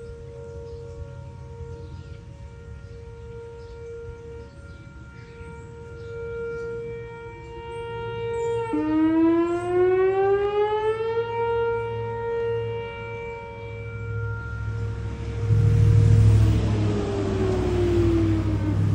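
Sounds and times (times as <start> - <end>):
electronic tornado siren: 0.0 - 18.9.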